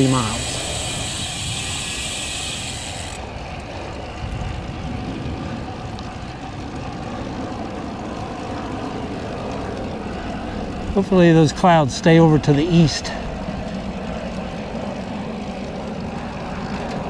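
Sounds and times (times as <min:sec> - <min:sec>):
bike freewheel buzz: 0:00.0 - 0:17.0
bike road noise: 0:00.0 - 0:17.0
wind rumbling over microphone: 0:00.0 - 0:17.0.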